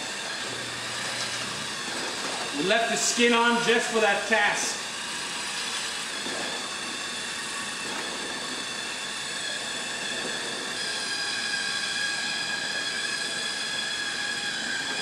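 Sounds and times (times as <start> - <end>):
immersion blender motor whine: 0.0 - 15.0.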